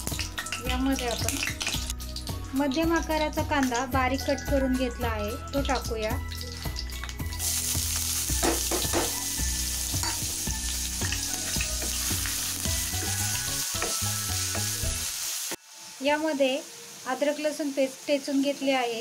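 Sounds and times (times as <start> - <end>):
onion sizzling in oil: 0.0 - 19.0.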